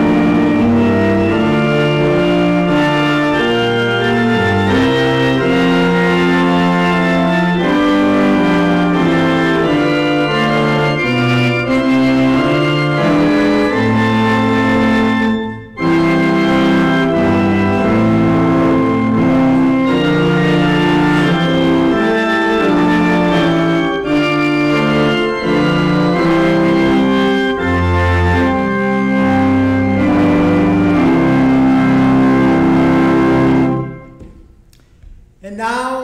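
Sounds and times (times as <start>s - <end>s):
organ playing a hymn: 0.0s - 34.5s.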